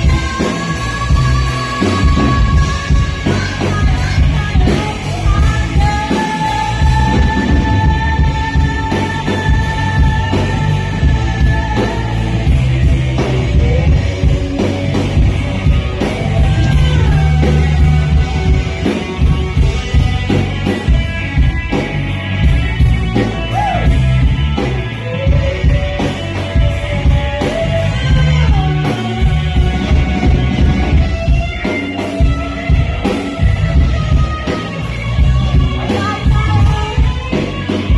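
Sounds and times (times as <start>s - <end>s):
drum kit: 0.0s - 37.9s
electric guitar: 0.0s - 37.9s.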